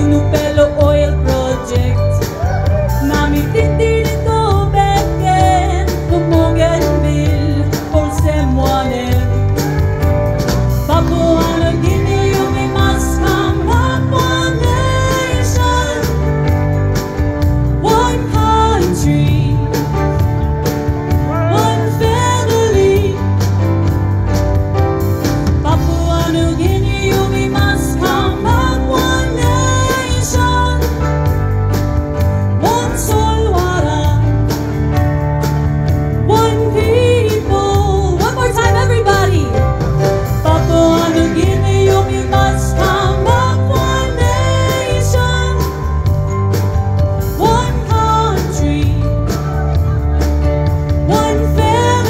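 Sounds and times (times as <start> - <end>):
person singing lead vocal: 0.0 - 10.0, 10.7 - 16.9, 17.6 - 20.3, 21.1 - 23.6, 25.6 - 31.3, 32.5 - 34.5, 36.2 - 46.2, 47.2 - 52.0
electric bass guitar: 0.0 - 52.0
keyboard: 0.0 - 52.0.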